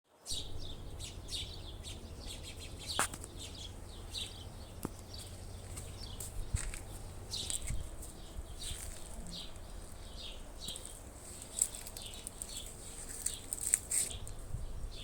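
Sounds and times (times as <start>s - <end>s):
small birds chirping: 0.2s - 15.0s
low wind rumble: 0.3s - 15.0s.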